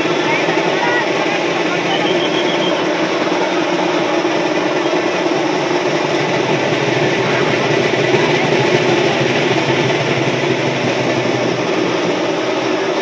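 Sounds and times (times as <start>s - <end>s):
large crowd roar: 0.0s - 13.0s.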